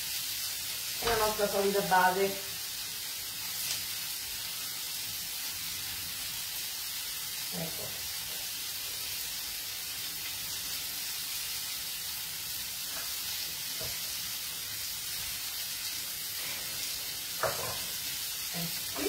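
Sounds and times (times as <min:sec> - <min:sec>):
oil sizzling in a frying pan: 0:00.0 - 0:19.0.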